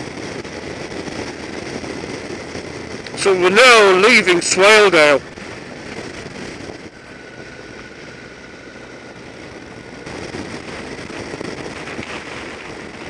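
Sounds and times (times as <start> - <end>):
motorcycle engine: 0.0 - 13.0
rushing road noise: 0.0 - 13.0.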